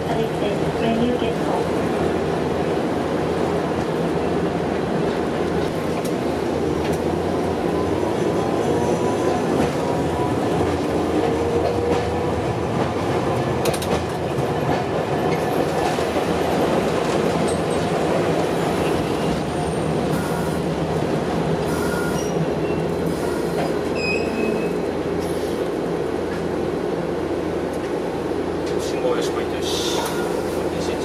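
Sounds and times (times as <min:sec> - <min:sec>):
tram wheels rumbling on rail: 0:00.0 - 0:31.0.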